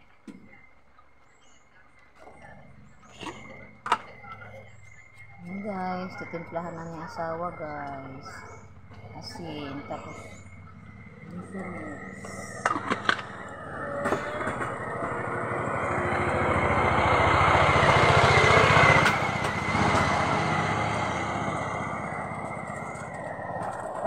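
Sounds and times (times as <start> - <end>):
vehicle engine passing by: 2.4 - 24.0.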